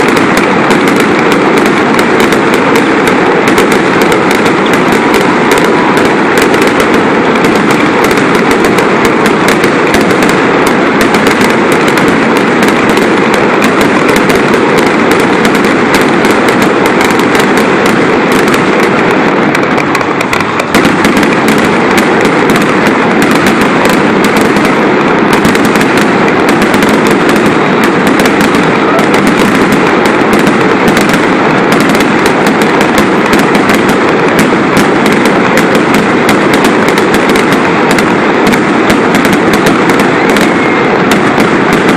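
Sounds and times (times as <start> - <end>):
fireworks crackling bursts: 0.0 - 41.9.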